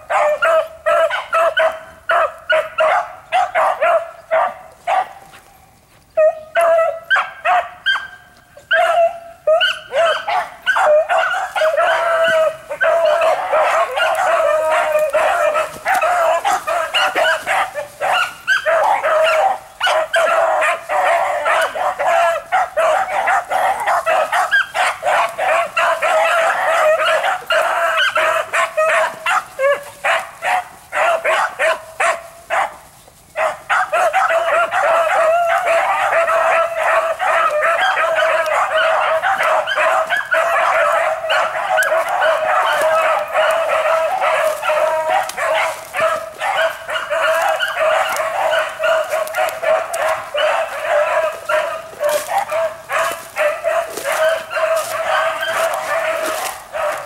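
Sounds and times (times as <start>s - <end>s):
dogs barking and yipping: 0.0s - 57.0s.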